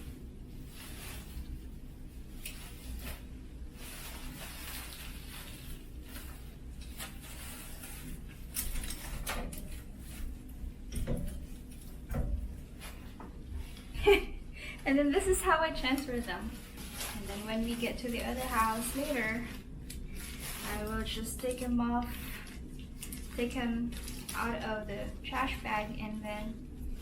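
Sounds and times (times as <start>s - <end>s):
plastic bag rustling: 0.0s - 27.0s.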